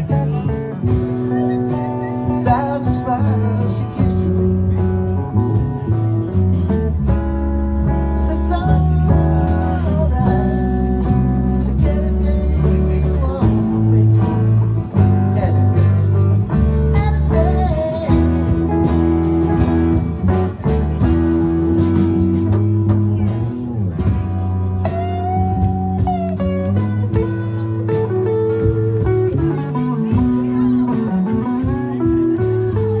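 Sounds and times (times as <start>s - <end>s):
electric guitar bending notes: 0.0s - 33.0s
live blues band playing: 0.0s - 33.0s.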